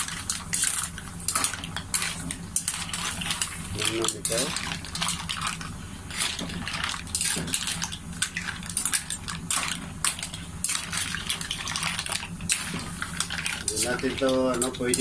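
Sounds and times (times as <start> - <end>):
low steady hum: 0.0 - 15.0
mussel shells clattering in a wok: 0.0 - 15.0.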